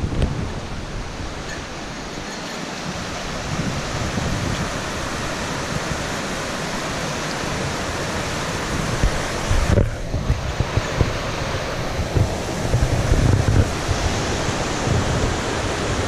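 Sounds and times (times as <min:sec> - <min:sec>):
creek rushing over rocks: 0:00.0 - 0:16.0.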